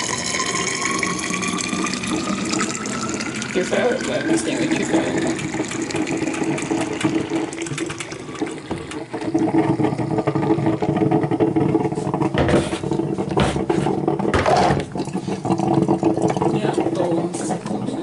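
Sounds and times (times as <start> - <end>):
steady hum: 0.0 - 18.0
water running: 0.0 - 18.0.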